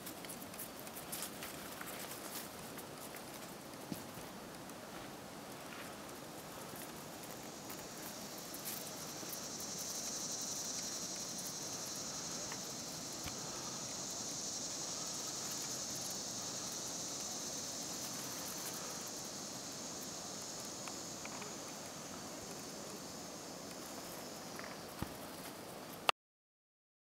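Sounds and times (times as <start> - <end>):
high-pitched insect chorus: 0.0 - 26.1.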